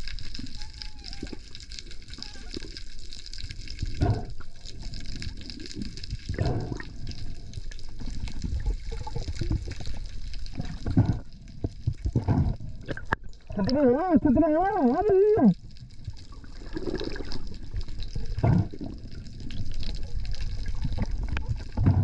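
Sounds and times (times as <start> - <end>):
sea water sloshing and bubbling: 0.0 - 22.0
water gushes: 0.0 - 22.0.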